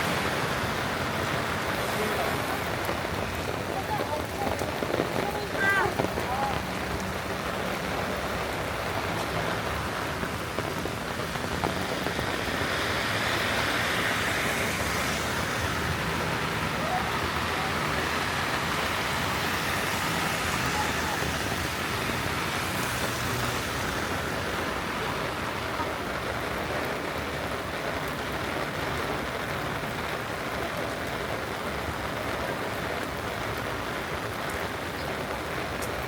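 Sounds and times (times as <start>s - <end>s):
steady rain falling: 0.0s - 36.0s
tyres hissing on wet road: 0.0s - 36.0s.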